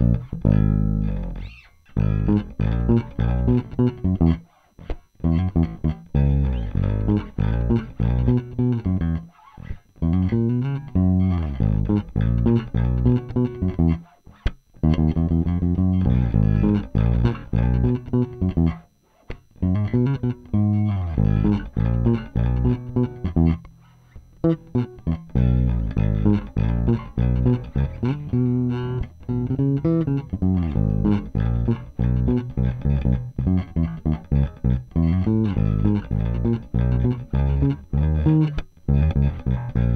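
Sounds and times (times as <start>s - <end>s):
electric bass plucked notes: 0.0s - 39.9s.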